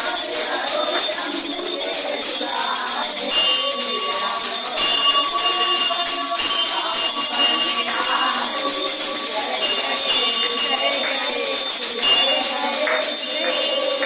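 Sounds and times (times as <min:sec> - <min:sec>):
temple bells ringing: 0:00.0 - 0:14.0.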